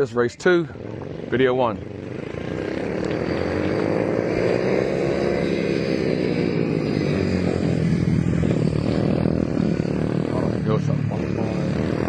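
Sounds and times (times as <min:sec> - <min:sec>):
mini motorcycle engines revving: 0:00.0 - 0:12.0.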